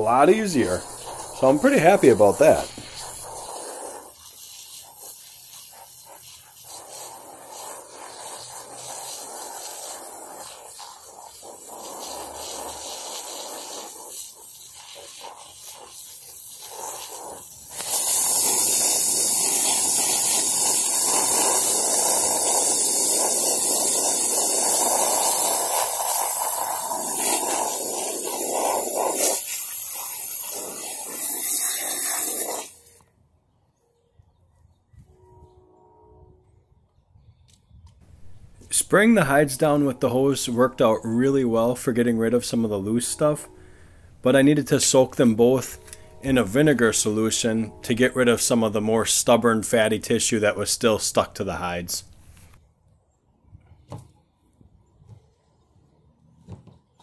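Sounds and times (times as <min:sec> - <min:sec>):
garden hose spraying water: 0:00.0 - 0:33.0, 0:38.0 - 0:52.6.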